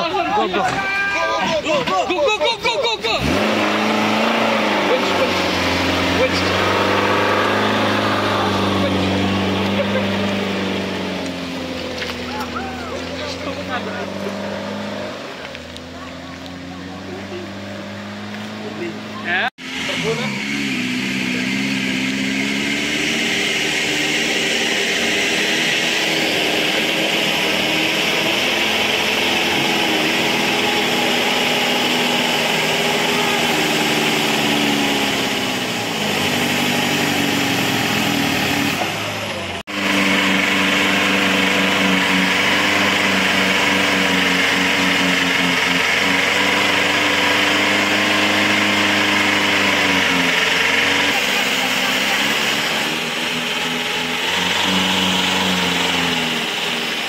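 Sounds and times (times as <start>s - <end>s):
off-road vehicle engine under load: 0.0s - 57.0s.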